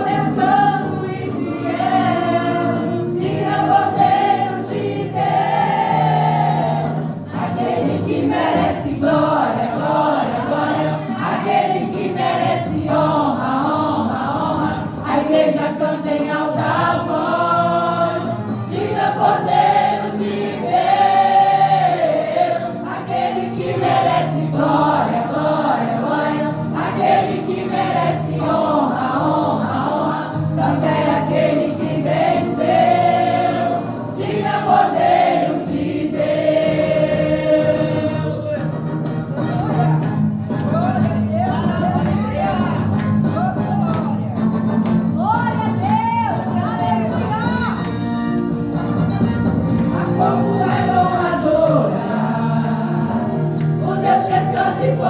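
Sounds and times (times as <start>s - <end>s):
vocal group singing in harmony: 0.0s - 47.4s, 49.7s - 55.0s
instrumental accompaniment: 0.0s - 55.0s.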